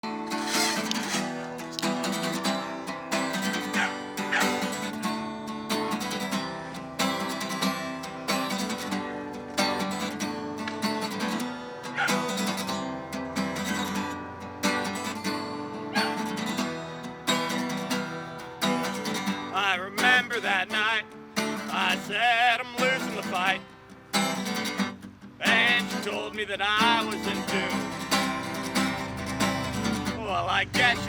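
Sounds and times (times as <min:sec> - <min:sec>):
guitar strumming chords: 0:00.0 - 0:31.0.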